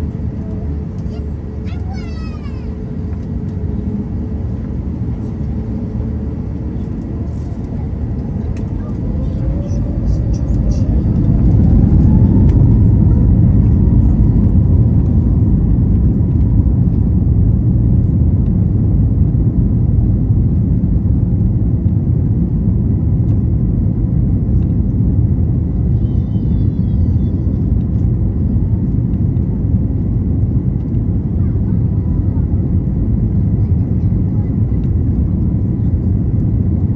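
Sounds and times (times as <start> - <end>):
jet engine whine: 0.0 - 36.9
runway and airflow rumble: 0.0 - 36.9.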